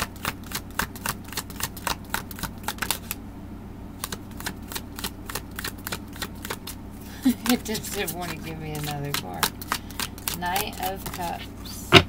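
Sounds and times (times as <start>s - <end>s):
cards being shuffled: 0.0s - 3.2s, 4.0s - 12.0s.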